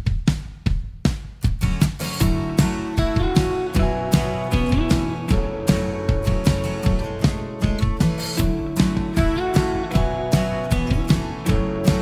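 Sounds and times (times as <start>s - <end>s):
drums steady beat: 0.0s - 12.0s.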